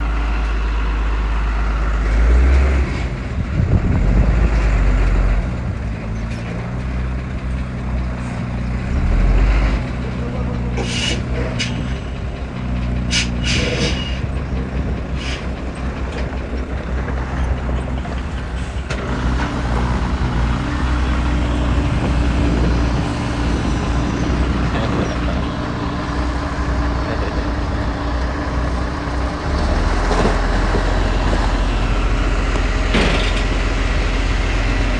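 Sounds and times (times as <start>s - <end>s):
heavy diesel machinery droning: 0.0s - 34.9s.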